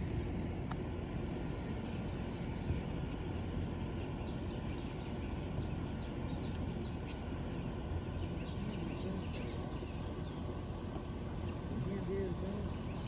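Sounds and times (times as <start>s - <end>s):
steady low rumble: 0.0s - 13.0s
small birds chirping: 1.5s - 13.0s.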